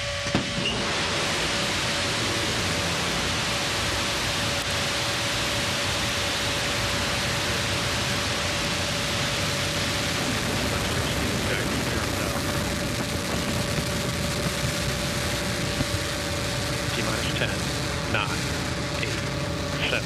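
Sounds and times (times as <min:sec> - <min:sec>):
rocket engine roaring: 0:00.0 - 0:20.0.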